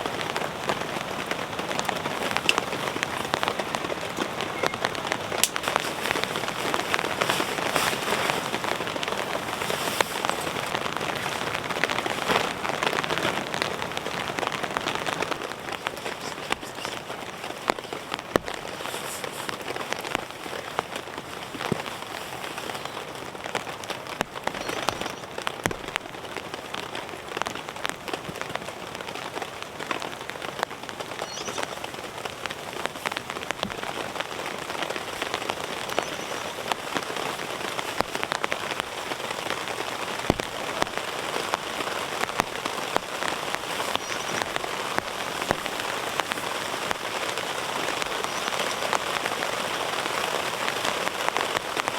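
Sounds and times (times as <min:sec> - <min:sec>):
heavy rain: 0:00.0 - 0:51.9
raindrops ticking close by: 0:00.0 - 0:51.9.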